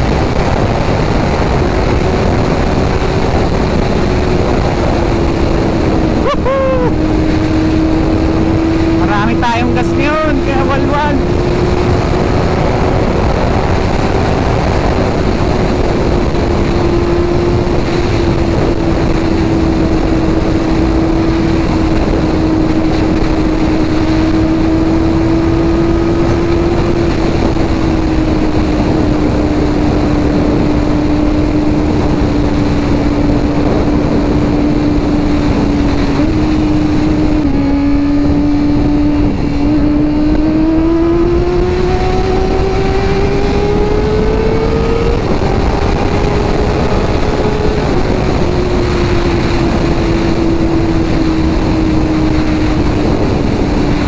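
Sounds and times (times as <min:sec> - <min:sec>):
heavy wind rush: 0:00.0 - 0:54.0
motorcycle engine revving high: 0:00.0 - 0:54.0.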